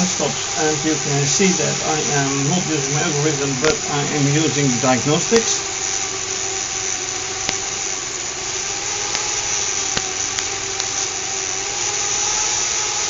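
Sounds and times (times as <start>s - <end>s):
sharp clicks: 0.0s - 12.2s
small electric motor whining: 0.0s - 13.0s.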